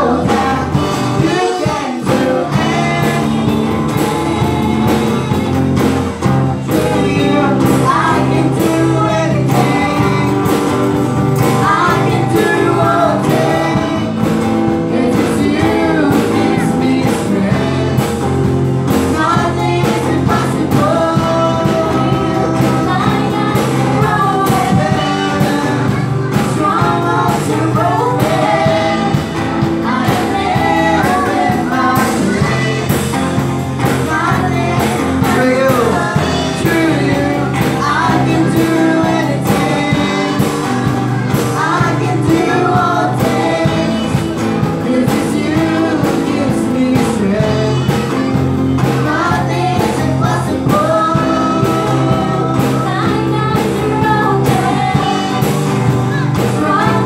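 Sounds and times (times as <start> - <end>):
drum kit beat: 0.0 - 57.0
electric guitars: 0.0 - 57.0
girls singing: 0.0 - 57.0.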